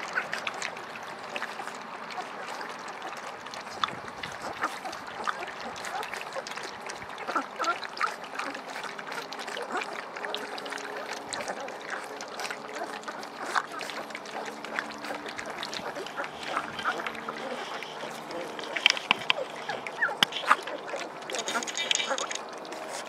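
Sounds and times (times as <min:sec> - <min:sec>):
puppies lapping and slurping food: 0:00.0 - 0:23.0.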